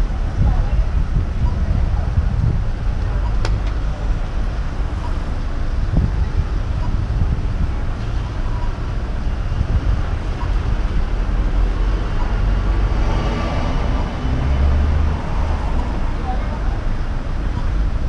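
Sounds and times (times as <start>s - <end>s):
slow traffic rumble: 0.0s - 18.0s.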